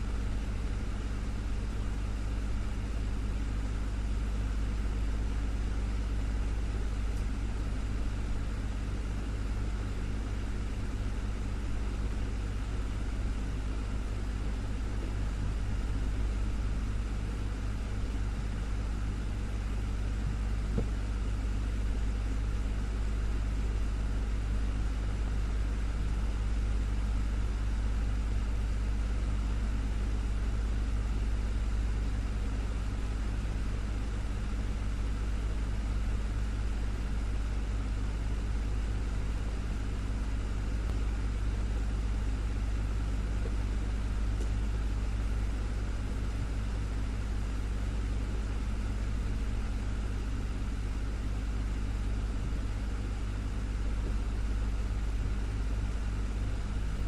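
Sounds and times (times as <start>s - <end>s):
desktop fan humming: 0.0s - 57.0s.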